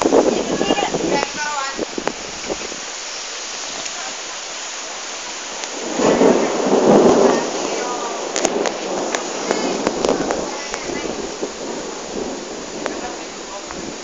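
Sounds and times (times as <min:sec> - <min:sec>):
rain rushing: 0:00.0 - 0:14.0
wind gusting: 0:00.0 - 0:14.0.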